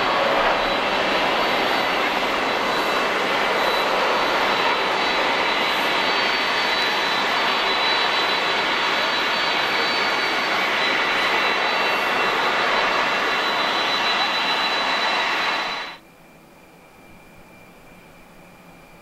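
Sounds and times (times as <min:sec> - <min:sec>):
jet engine roar with whine: 0:00.0 - 0:19.0.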